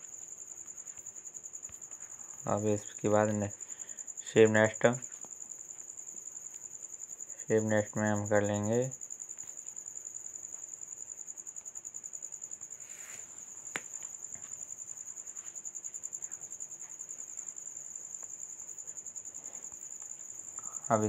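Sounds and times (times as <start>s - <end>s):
cricket chirping: 0.0s - 21.0s.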